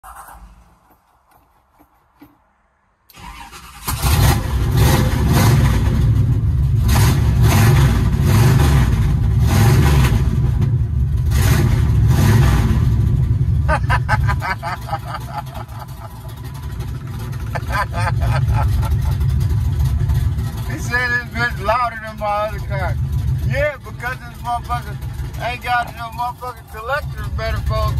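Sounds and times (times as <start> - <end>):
car engine cranking and revving: 0.0 - 1.9, 3.1 - 27.9
engine ticking: 3.1 - 27.9.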